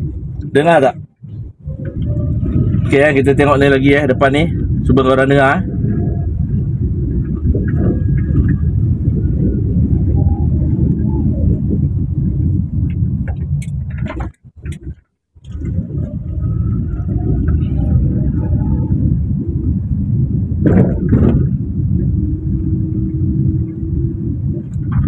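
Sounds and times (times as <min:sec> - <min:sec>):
low road rumble in car cabin: 0:00.0 - 0:25.0.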